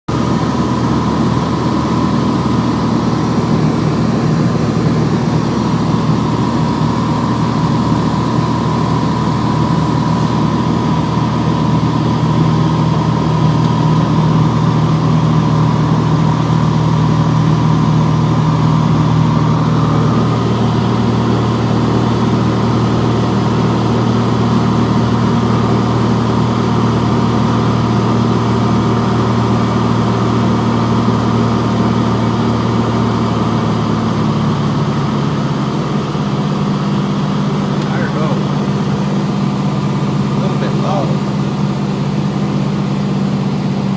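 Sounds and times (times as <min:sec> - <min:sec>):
propeller plane engine droning: 0:00.1 - 0:43.9.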